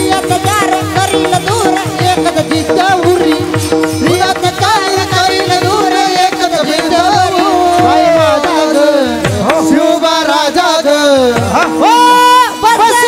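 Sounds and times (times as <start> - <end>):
drum strokes: 0.0 - 10.6, 11.2 - 12.8
man singing devotional song: 0.0 - 13.0.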